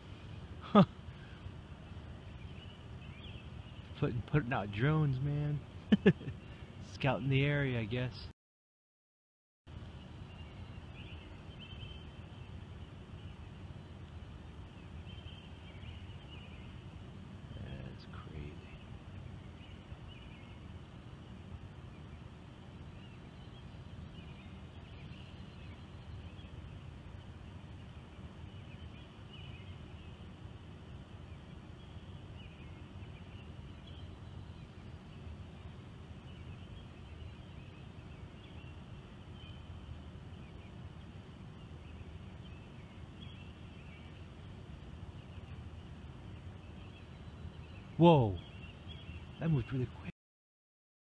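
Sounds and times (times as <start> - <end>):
distant birds chirping: 0.0 - 8.3, 9.7 - 50.1
low outdoor rumble: 0.0 - 8.3, 9.7 - 50.1.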